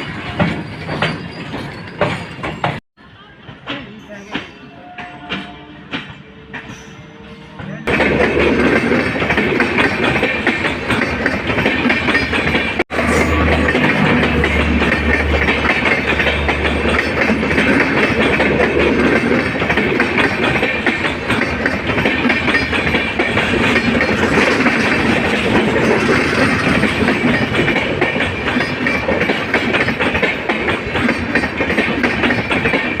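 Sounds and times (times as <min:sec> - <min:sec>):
train rumble and wheel clatter: 0:00.0 - 0:33.0.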